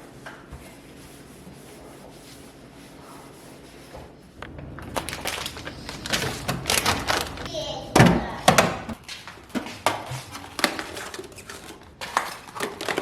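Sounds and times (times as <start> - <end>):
rubbing and scraping of items: 0.0 - 13.0.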